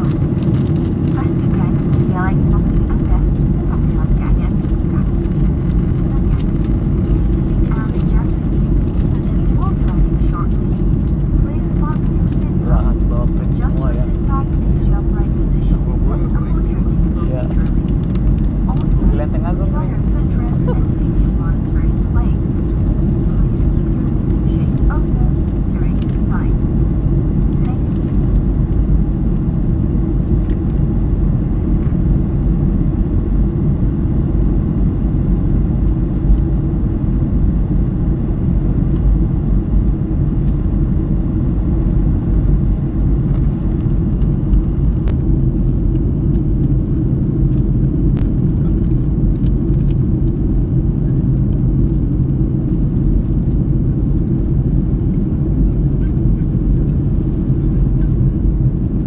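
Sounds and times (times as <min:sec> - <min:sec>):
airplane rumble: 0:00.0 - 0:59.0.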